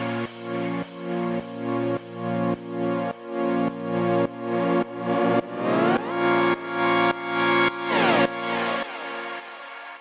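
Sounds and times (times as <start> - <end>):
electronic music with pulsing beat: 0.0 - 10.0
rising synth sweep: 0.0 - 10.0.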